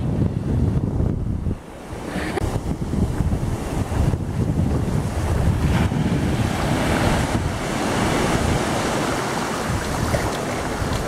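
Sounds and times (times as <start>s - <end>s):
wind buffeting microphone: 0.0s - 11.0s
surf breaking on beach: 1.7s - 11.0s.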